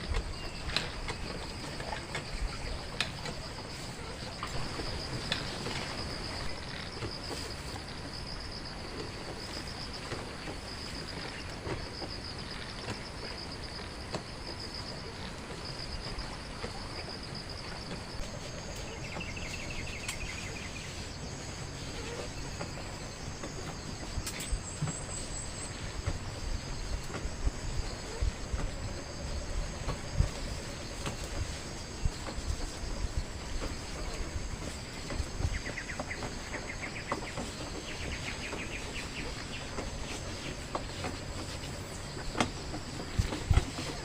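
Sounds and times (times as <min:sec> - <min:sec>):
insects trilling: 0:00.0 - 0:44.0
outdoor background noise: 0:00.0 - 0:44.0.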